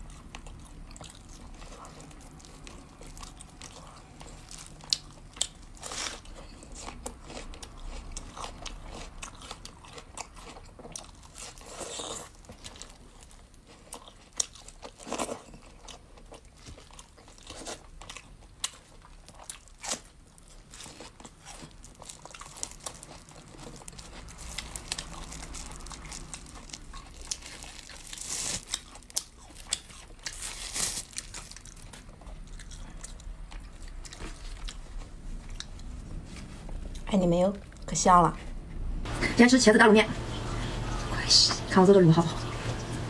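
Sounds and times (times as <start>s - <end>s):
crunchy chewing: 0.0s - 37.0s, 40.0s - 43.0s.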